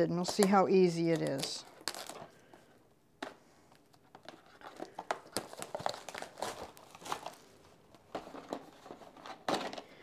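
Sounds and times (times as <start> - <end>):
paper and cardboard crinkling: 0.2 - 10.0.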